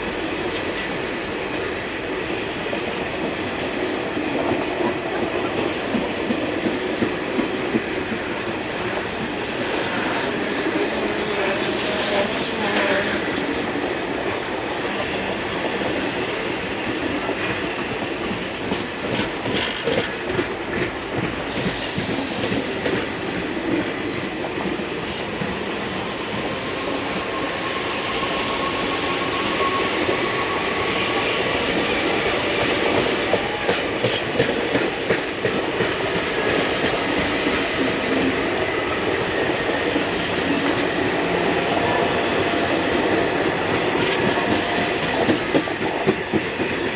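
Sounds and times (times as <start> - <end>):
train rumbling on track: 0.0 - 46.9.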